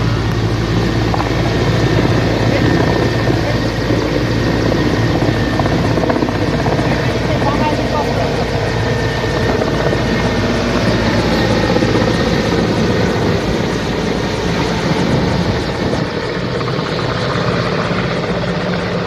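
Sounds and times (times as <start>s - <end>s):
helicopter rotor throbbing: 0.0s - 19.0s.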